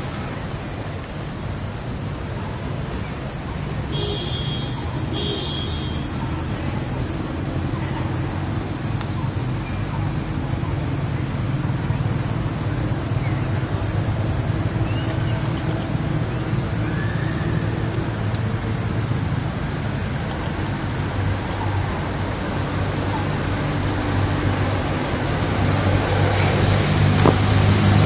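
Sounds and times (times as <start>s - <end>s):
low rumbling outdoor noise: 0.0s - 28.0s.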